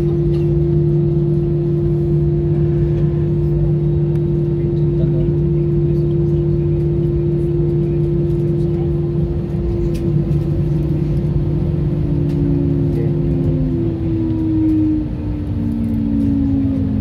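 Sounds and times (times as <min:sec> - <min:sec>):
airliner cabin hum: 0:00.0 - 0:17.0
low tones over rumble: 0:00.0 - 0:17.0.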